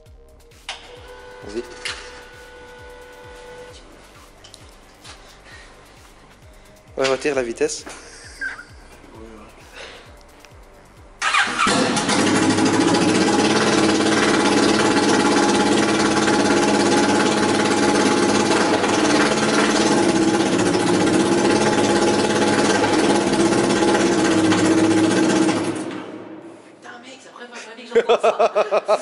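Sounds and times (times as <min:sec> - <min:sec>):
loud motorcycle engine starting and idling: 0:00.0 - 0:26.5.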